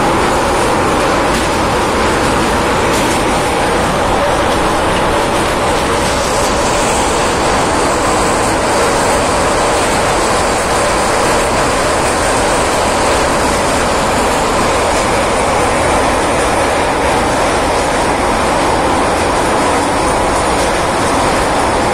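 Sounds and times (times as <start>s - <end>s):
train running on rails: 0.0s - 21.9s.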